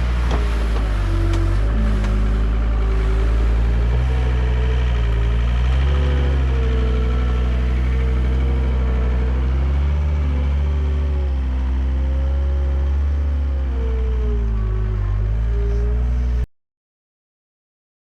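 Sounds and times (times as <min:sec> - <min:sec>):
excavator diesel engine running: 0:00.0 - 0:16.5.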